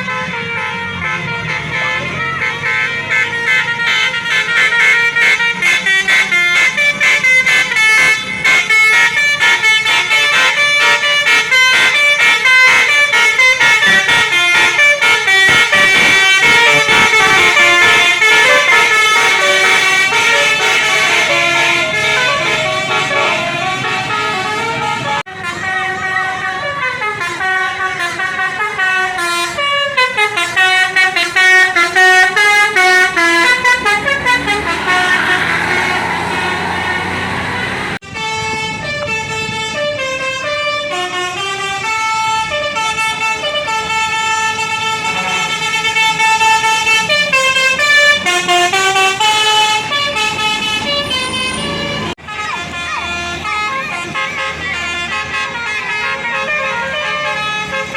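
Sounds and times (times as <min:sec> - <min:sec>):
multi-tone bus horn melody: 0:00.0 - 0:57.9.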